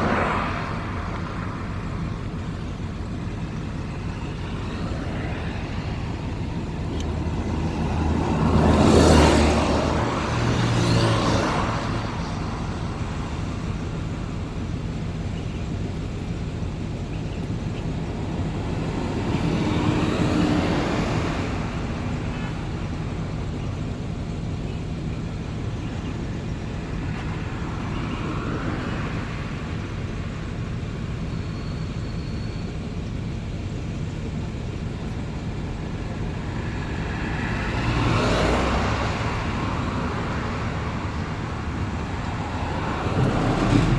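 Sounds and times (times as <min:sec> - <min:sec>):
cars passing close by: 0:00.0 - 0:43.9
traffic tyre and engine rush: 0:00.0 - 0:43.9.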